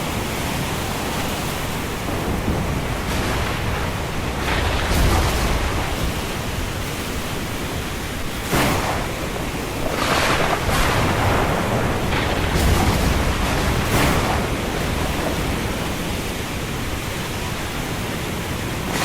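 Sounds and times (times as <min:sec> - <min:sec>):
storm wind rushing: 0:00.0 - 0:19.0.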